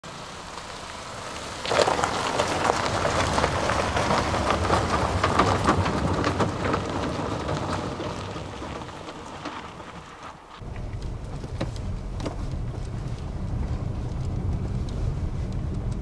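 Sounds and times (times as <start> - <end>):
rain pattering: 0.1 - 16.0.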